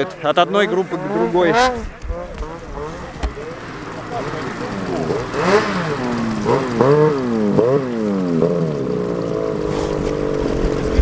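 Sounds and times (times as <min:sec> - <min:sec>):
snowmobile engine revving: 0:00.0 - 0:11.0.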